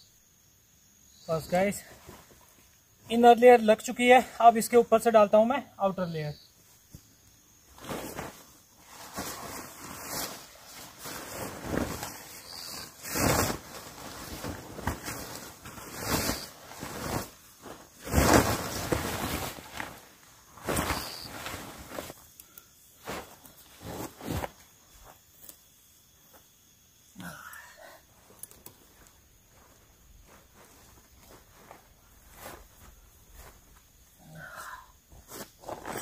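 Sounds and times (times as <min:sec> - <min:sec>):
nylon tent fly rustling: 0:01.2 - 0:04.3, 0:06.6 - 0:36.0.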